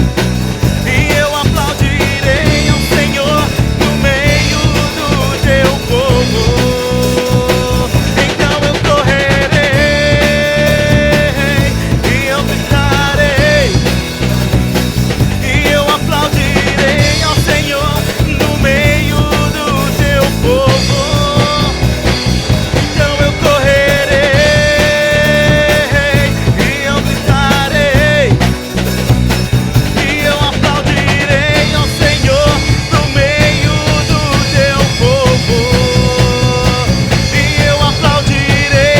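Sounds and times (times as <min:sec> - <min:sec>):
acoustic guitar: 0:00.0 - 0:38.9
drum kit: 0:00.0 - 0:38.9
man singing: 0:00.0 - 0:38.9.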